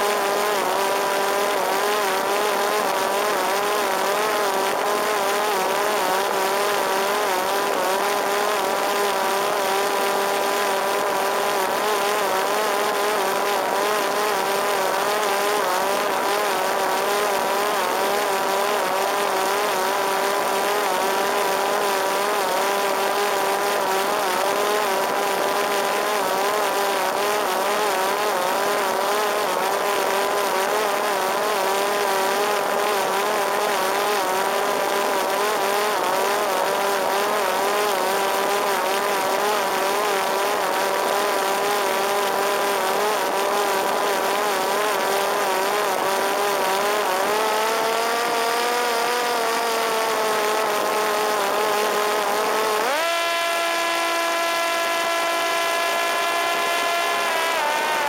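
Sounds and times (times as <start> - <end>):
drone motor and propeller whining: 0.0 - 58.0.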